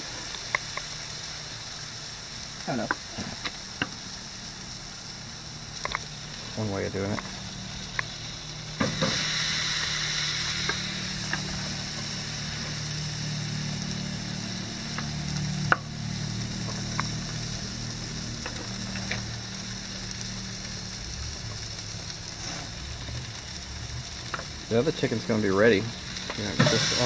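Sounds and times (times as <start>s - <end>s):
chicken sizzling on a grill: 0.0s - 27.0s.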